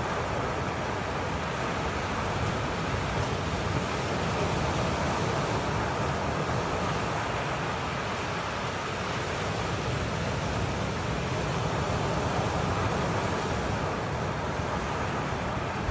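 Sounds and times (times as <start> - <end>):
ocean surf on rocky shore: 0.0 - 15.9.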